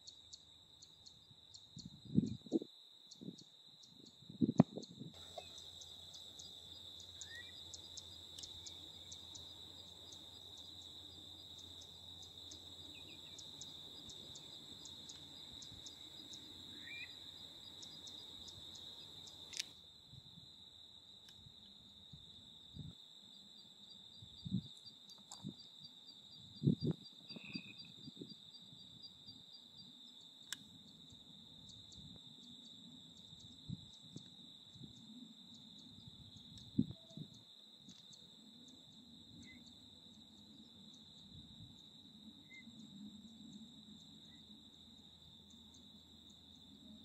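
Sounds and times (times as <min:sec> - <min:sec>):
crickets trilling: 0:00.0 - 0:47.0
insect chirping in pulses: 0:00.0 - 0:47.0.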